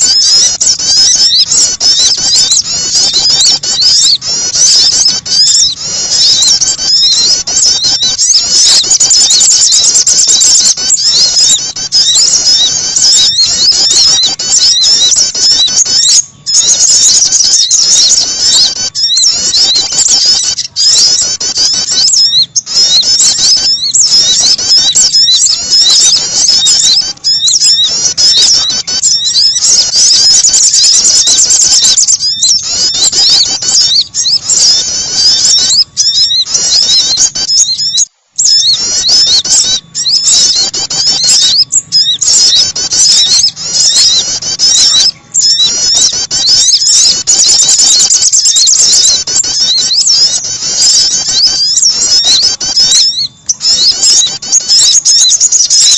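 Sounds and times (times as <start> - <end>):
songbirds chirping and trilling: 0.0 - 55.9.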